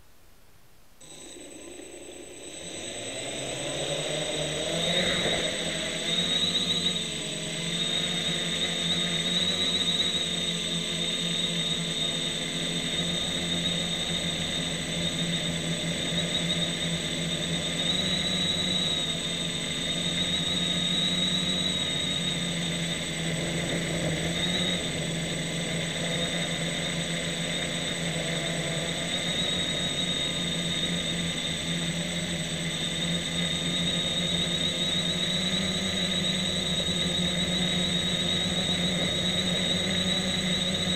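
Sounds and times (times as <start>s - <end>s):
quadcopter motors whining: 1.0s - 40.9s.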